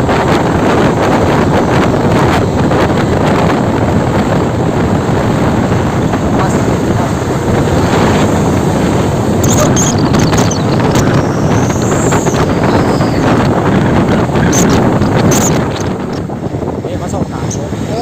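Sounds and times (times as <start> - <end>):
truck and road traffic: 0.0 - 18.0
wind buffeting microphone: 0.0 - 18.0.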